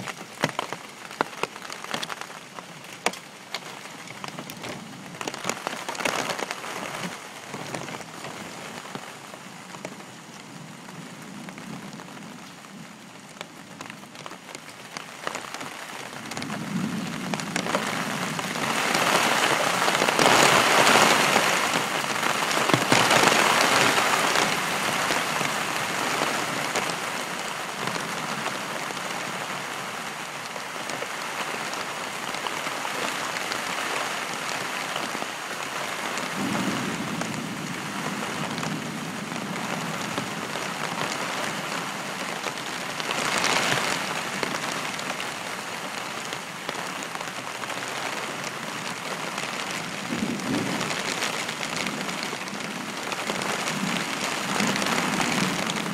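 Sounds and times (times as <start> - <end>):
heavy rain downpour: 0.0 - 55.9.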